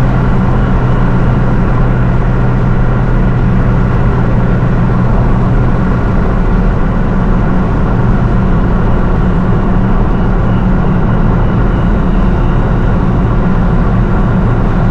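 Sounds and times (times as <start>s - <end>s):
car engine running steadily: 0.0s - 14.9s.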